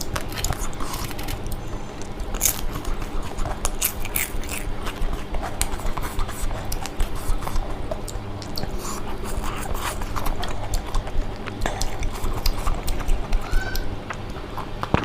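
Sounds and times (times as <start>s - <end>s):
chewing crunchy fried food: 0.0s - 15.0s.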